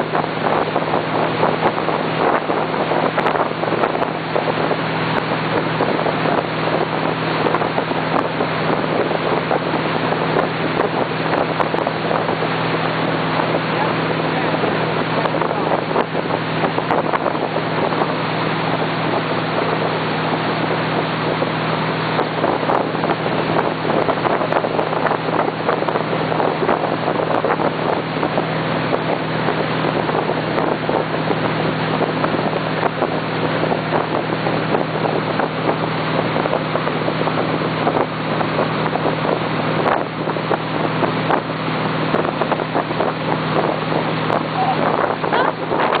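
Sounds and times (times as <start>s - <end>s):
motorboat engine drone: 0.0s - 46.0s
water rushing in wake: 0.0s - 46.0s
wind buffeting microphone: 0.0s - 46.0s.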